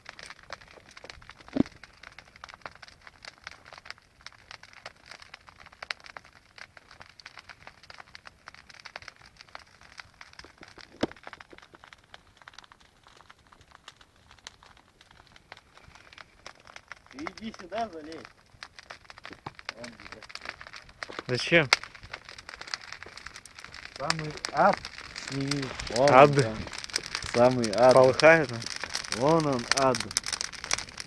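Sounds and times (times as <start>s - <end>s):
bonfire crackling and popping: 0.0s - 31.0s
loud fire cracks: 0.0s - 31.0s.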